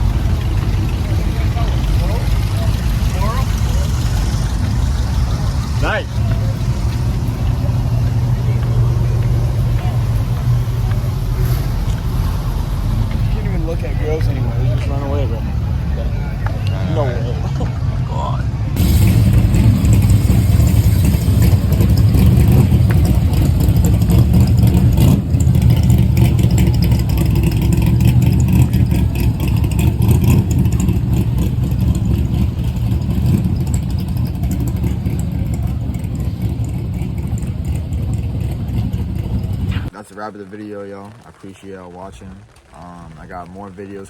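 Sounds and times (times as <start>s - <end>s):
car engine droning: 0.0s - 40.0s.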